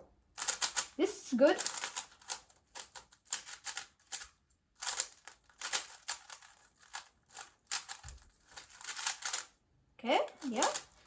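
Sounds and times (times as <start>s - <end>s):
puzzle cube plastic clicks: 0.4s - 9.5s, 10.3s - 11.0s.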